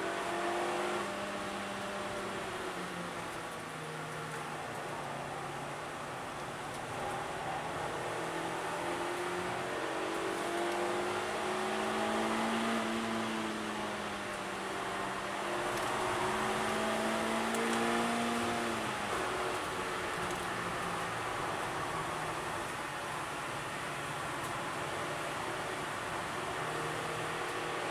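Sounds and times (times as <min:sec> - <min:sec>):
car engine accelerating: 0:00.0 - 0:27.9.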